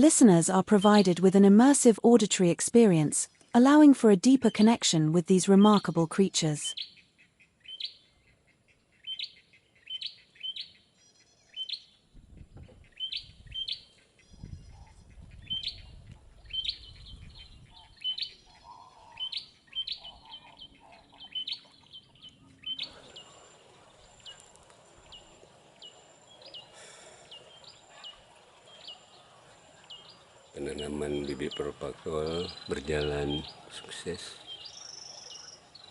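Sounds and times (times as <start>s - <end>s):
bird chip calls: 5.7s - 12.0s, 12.7s - 35.9s.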